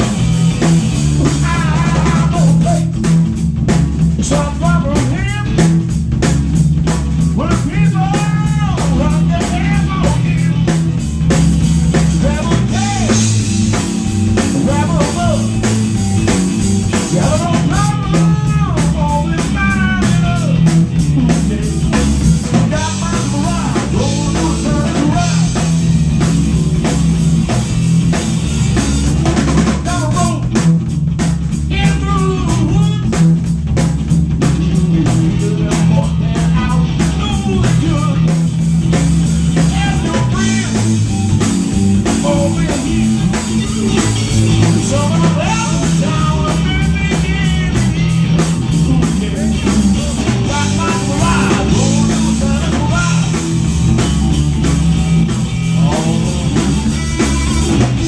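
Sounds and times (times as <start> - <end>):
bass guitar: 0.0 - 58.0
drum kit beat: 0.0 - 58.0
electric guitar: 0.0 - 58.0.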